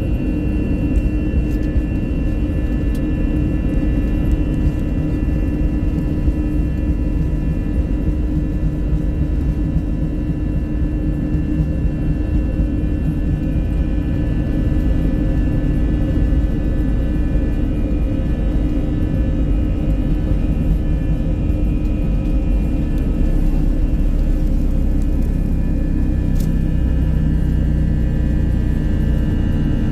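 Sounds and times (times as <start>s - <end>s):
jet engines humming in cabin: 0.0s - 29.9s.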